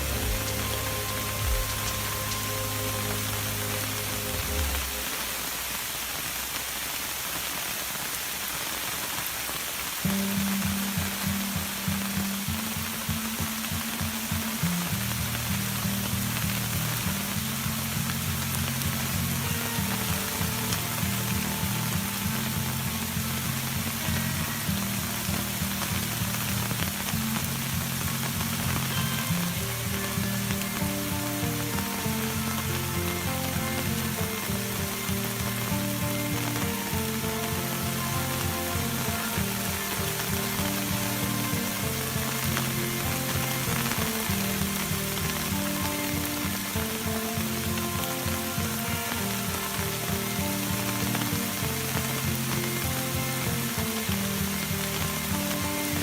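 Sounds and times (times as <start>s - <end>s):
melodic music: 0.0s - 6.0s, 10.1s - 56.0s
heavy rain hissing: 0.0s - 56.0s.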